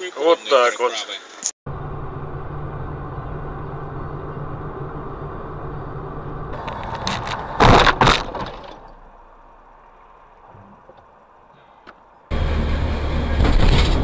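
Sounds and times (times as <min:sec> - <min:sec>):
car engine and road noise: 0:01.7 - 0:14.0.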